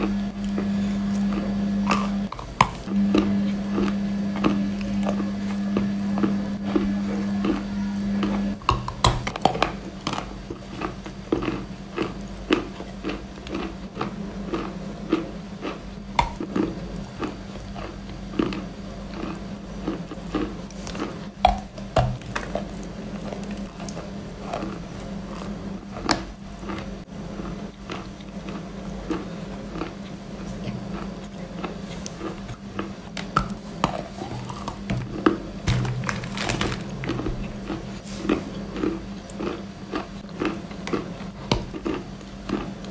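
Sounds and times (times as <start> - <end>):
cookie chewing crunches: 0.0 - 42.9.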